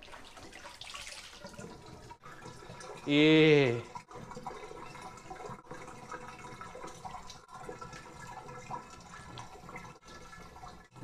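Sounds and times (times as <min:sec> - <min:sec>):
bathtub water running: 0:00.0 - 0:11.0.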